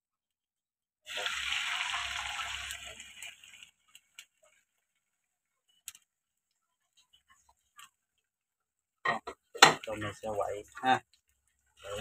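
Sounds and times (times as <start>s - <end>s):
eggs sizzling in hot oil: 0.6s - 12.0s.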